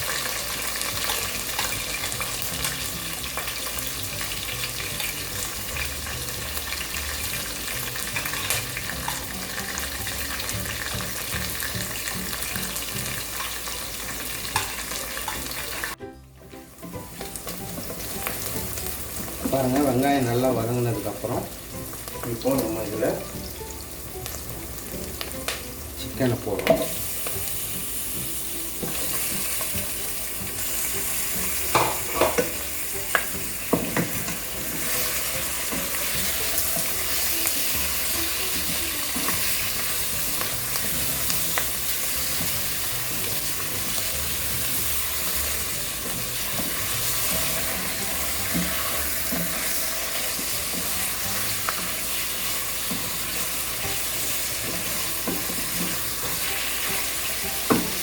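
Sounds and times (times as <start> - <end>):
chicken sizzling in oil: 0.0 - 16.0, 16.6 - 58.0.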